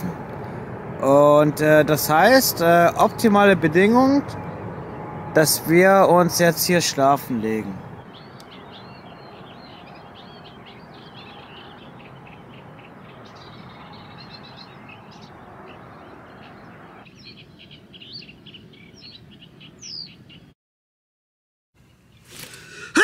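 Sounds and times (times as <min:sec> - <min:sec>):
songbirds chirping and singing: 0:01.1 - 0:20.6.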